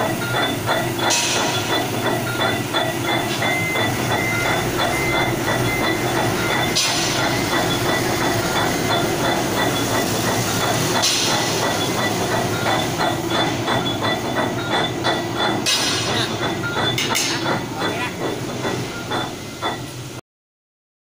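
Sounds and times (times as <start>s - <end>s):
concrete mixer rumbling: 0.0s - 19.9s
rapid metal clanks: 0.0s - 19.9s.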